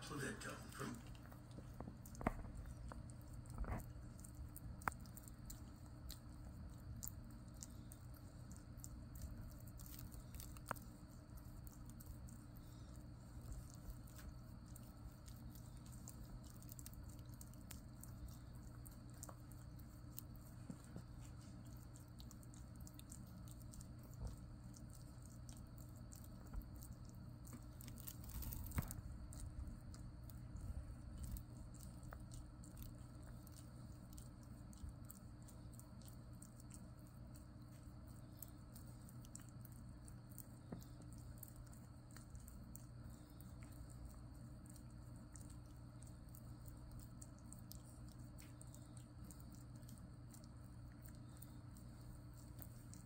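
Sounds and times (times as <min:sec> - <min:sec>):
low room hum: 0:00.0 - 0:53.0.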